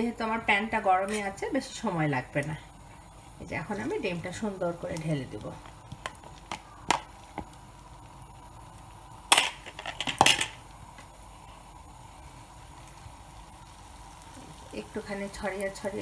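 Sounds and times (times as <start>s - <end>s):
egg sizzling in oil: 0.0s - 16.0s.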